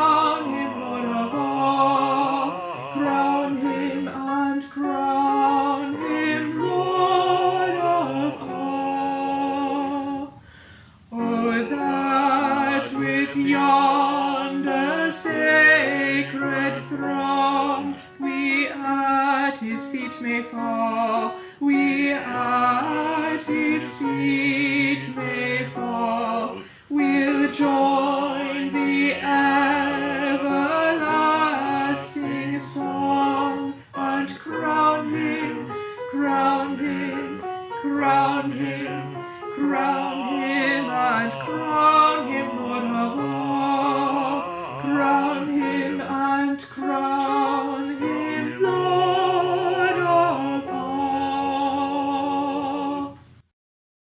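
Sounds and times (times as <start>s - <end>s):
alto voice singing a hymn: 0.0s - 53.5s.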